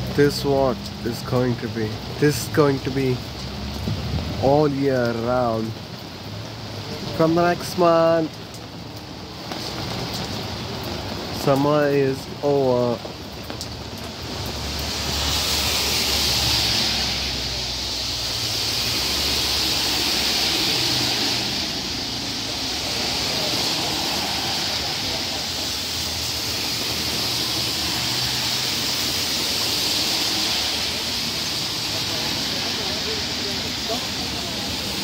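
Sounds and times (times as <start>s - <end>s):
steady rain: 0.0s - 35.0s
tyres hissing on wet road: 0.0s - 35.0s.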